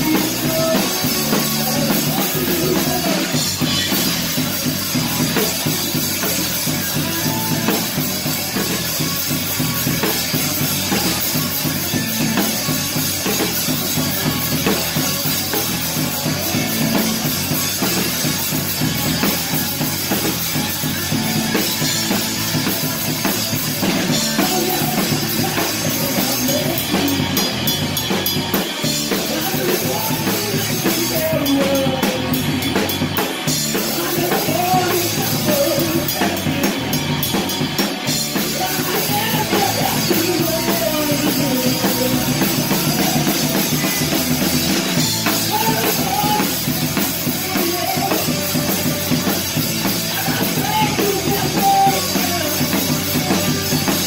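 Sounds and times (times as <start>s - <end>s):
amplified rock band music: 0.0s - 54.0s
drumming and cymbals: 0.0s - 54.0s.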